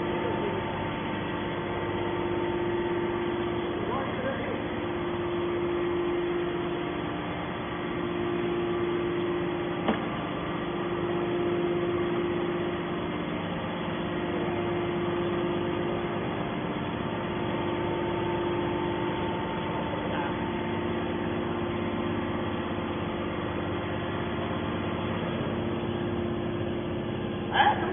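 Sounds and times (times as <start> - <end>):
baler machine humming: 0.0 - 27.9.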